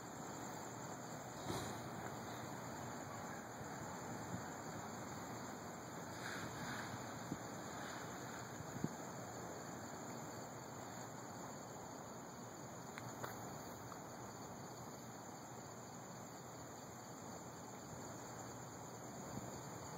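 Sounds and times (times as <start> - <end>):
faint outdoor hiss: 0.0 - 19.9.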